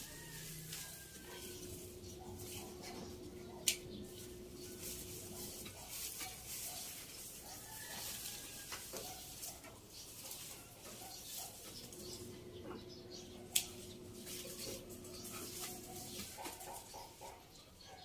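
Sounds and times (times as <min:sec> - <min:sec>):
leafy branches rustling: 0:00.0 - 0:17.4.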